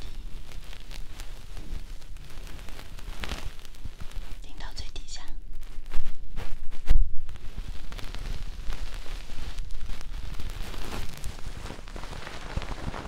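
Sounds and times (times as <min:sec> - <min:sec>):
stick scratching inside microphone ear: 0:00.0 - 0:13.0.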